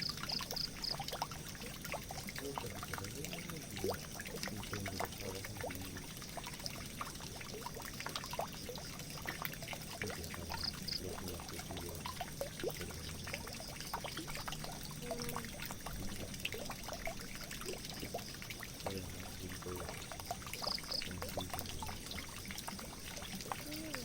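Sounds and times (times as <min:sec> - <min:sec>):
faint low hum: 0:00.0 - 0:24.0
water trickling and pouring: 0:00.0 - 0:24.0.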